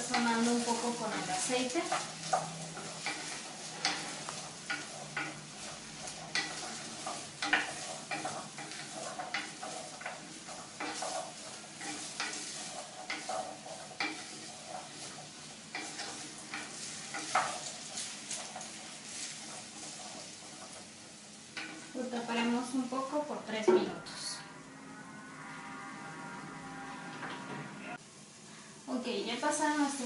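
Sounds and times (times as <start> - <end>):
vegetables sizzling in oil: 0.0 - 24.4, 28.0 - 30.0
wooden spoon scraping pot: 0.0 - 28.0.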